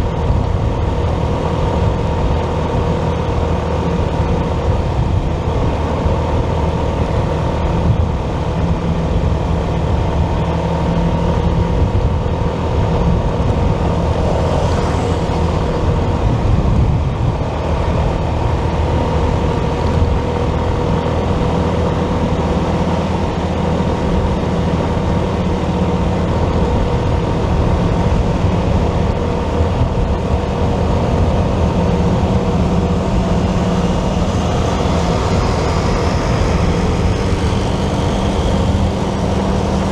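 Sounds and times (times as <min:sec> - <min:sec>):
motorcycle engine running: 0:00.0 - 0:39.9
traffic: 0:00.0 - 0:39.9
wind and road noise: 0:00.0 - 0:39.9.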